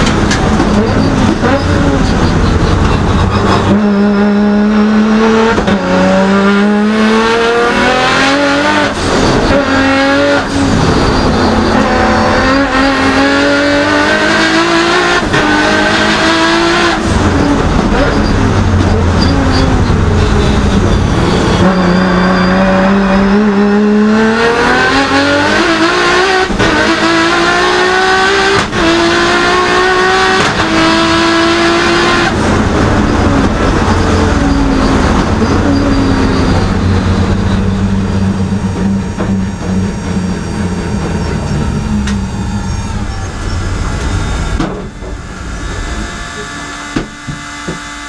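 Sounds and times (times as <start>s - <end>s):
race car engine revving: 0.0s - 48.0s.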